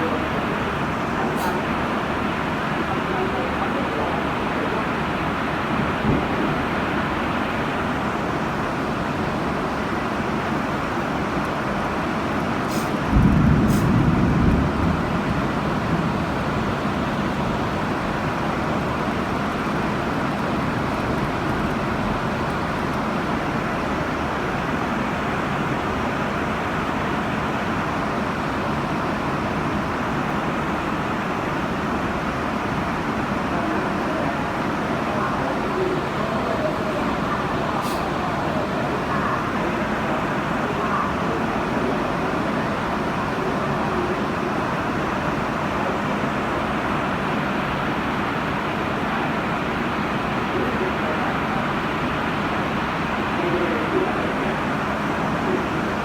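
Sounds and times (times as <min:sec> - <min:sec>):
traffic on wet road: 0:00.0 - 0:56.0.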